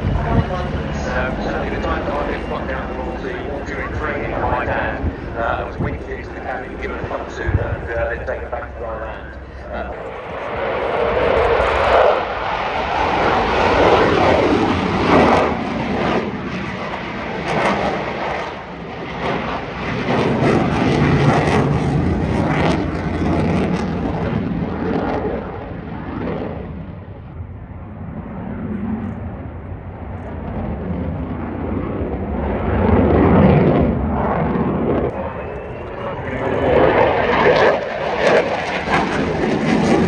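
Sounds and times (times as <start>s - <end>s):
aircraft engines flying past: 0.0s - 40.0s.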